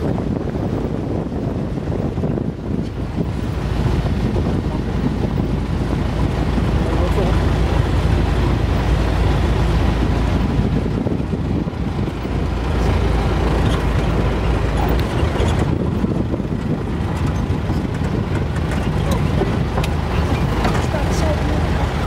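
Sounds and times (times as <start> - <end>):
vehicle engine and tyres rumbling: 0.0 - 22.0.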